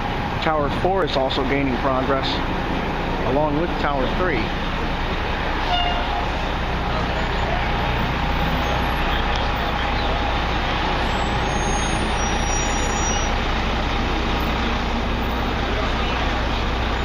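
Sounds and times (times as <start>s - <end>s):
city traffic with trucks: 0.0s - 17.0s.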